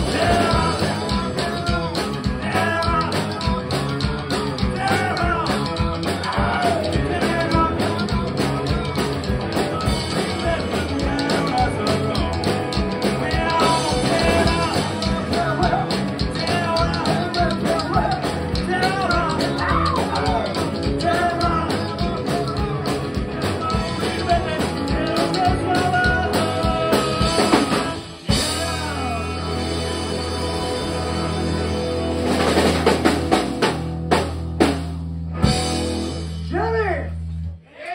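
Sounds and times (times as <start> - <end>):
person singing: 0.0 - 32.8
drum kit: 0.0 - 37.6
electric guitars: 0.0 - 37.6
upright bass: 0.0 - 37.6.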